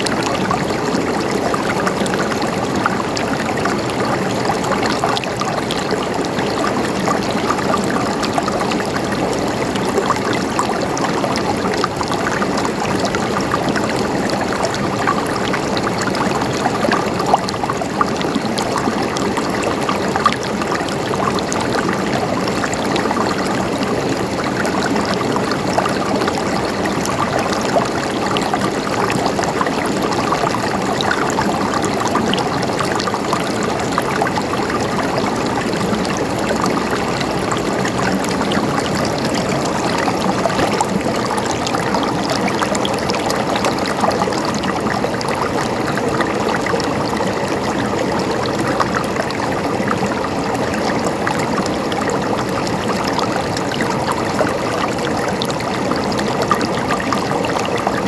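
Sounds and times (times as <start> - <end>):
stream water flowing and gurgling: 0.0 - 58.0.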